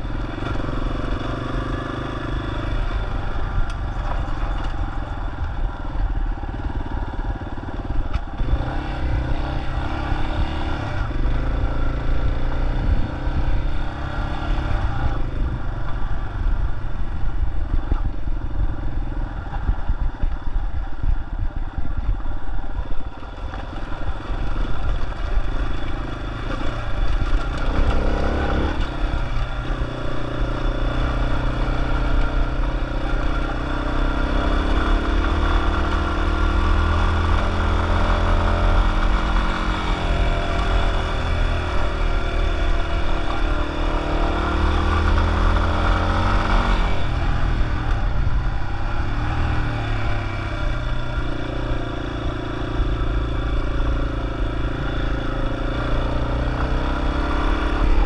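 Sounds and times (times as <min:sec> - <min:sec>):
wind buffeting microphone: 0:00.0 - 0:34.6, 0:35.6 - 0:58.0
motorcycle engine riding: 0:00.0 - 0:58.0.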